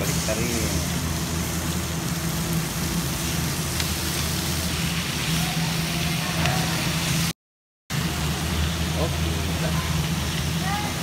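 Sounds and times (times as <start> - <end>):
fish sizzling on a grill: 0.0 - 7.3, 8.0 - 11.0.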